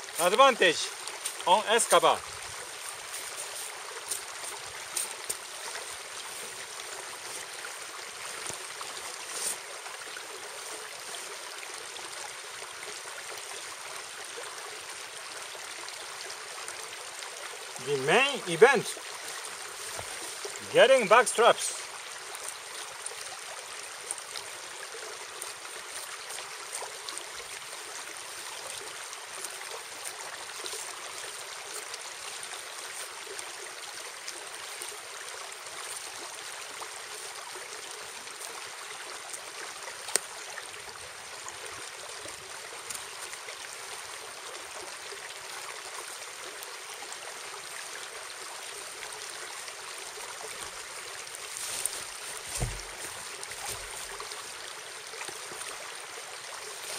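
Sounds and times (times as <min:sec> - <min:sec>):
running water: 0:00.0 - 0:56.9.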